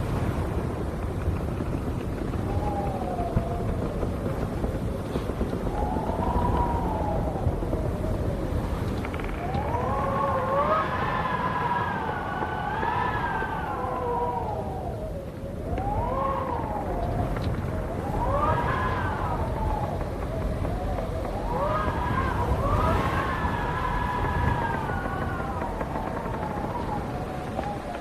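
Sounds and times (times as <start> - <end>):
wind howling: 0.0 - 28.0.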